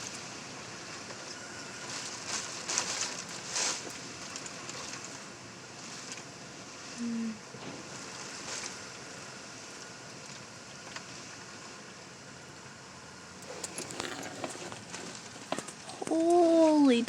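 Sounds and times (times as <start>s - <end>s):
wind and rain hiss: 0.0s - 17.0s.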